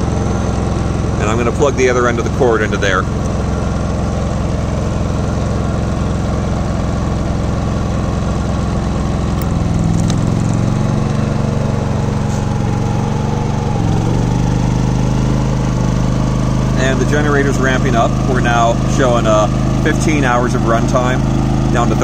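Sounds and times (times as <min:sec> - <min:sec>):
generator engine running: 0:00.0 - 0:22.0.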